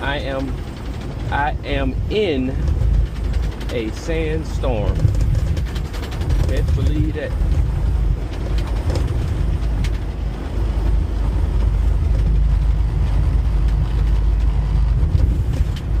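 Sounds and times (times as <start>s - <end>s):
truck cab rumble: 0.0s - 16.0s.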